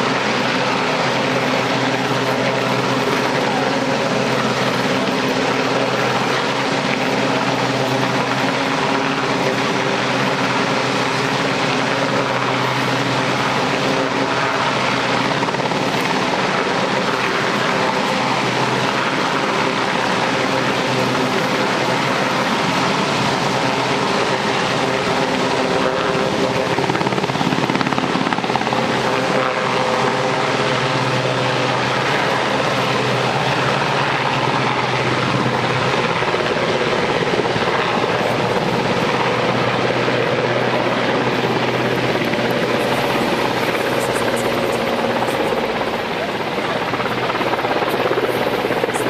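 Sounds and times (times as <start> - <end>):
constant hum: 0.0 - 49.0
helicopter hovering: 0.0 - 49.0.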